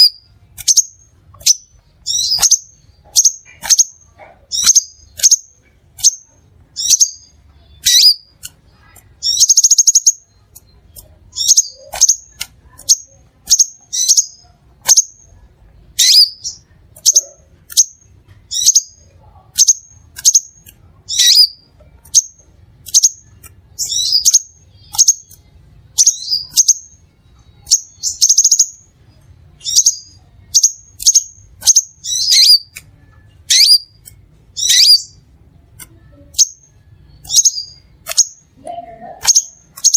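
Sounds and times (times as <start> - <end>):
sharp high bird chirps: 0.0 - 15.4, 16.0 - 35.3, 35.9 - 38.6, 39.2 - 39.9.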